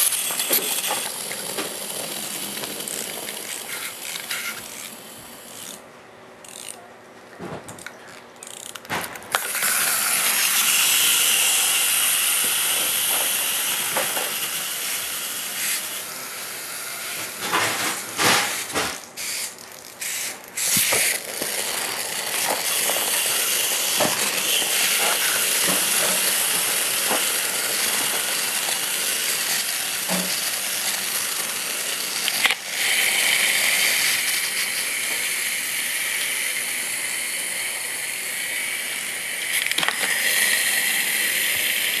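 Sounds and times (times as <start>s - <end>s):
wind-up toys whirring: 0.0s - 5.8s, 6.4s - 6.8s, 7.8s - 42.0s.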